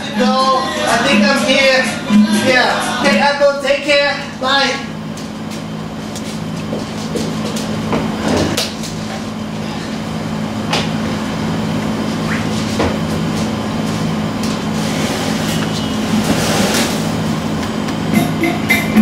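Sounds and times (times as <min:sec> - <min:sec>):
mechanical hum and rumble: 0:00.0 - 0:19.0.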